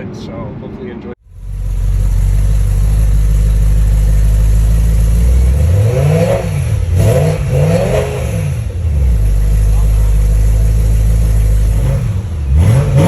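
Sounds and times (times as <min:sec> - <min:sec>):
car engine idling: 0:01.2 - 0:13.0
car engine revving: 0:01.2 - 0:13.0.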